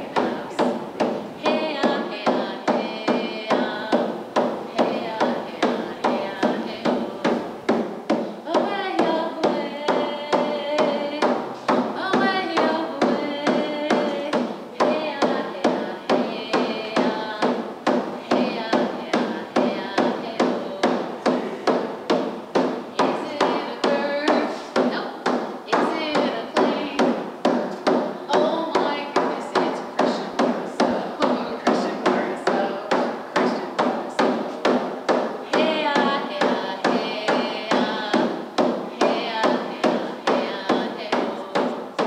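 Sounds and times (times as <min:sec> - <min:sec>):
person singing: 0:00.0 - 0:22.2, 0:22.9 - 0:34.8, 0:35.4 - 0:42.0
hand drum steady beat: 0:00.0 - 0:42.0.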